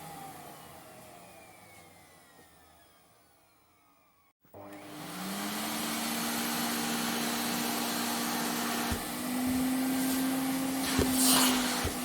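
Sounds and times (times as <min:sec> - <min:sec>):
vacuum cleaner motor: 0:00.0 - 0:12.0.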